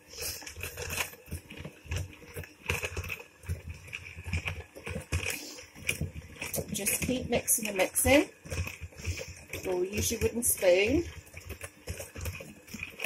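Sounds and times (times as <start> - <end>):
dough scraping in glass bowl: 0.0 - 13.0.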